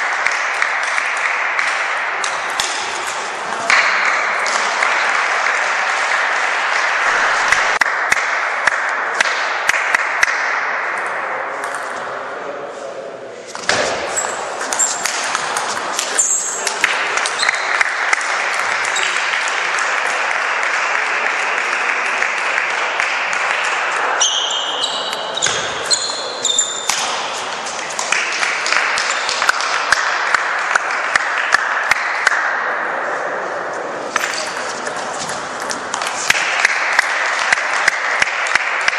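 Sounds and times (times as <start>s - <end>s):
crowd noise in a hall: 0.0s - 38.9s.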